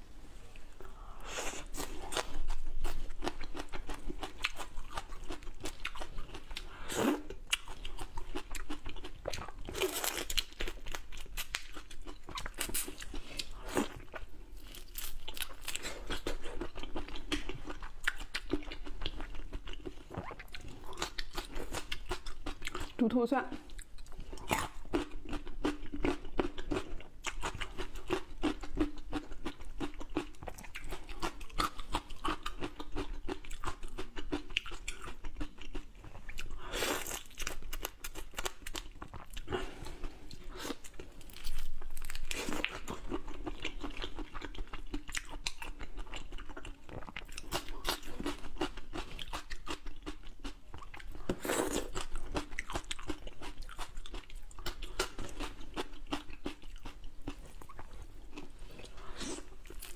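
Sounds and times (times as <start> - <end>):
crunching of food: 0.5 - 23.0, 23.6 - 59.9.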